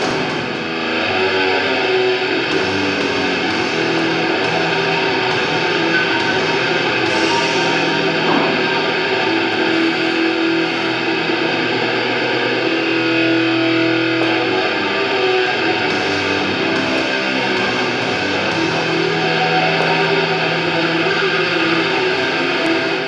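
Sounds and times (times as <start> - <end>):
distorted electric guitar music: 0.0 - 23.0.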